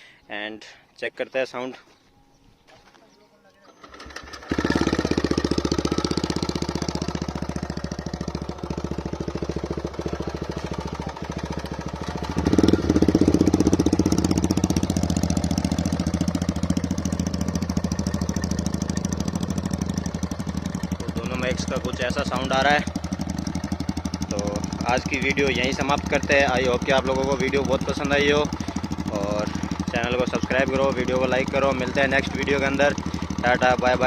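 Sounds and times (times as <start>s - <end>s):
motorcycles idling: 3.7s - 34.0s.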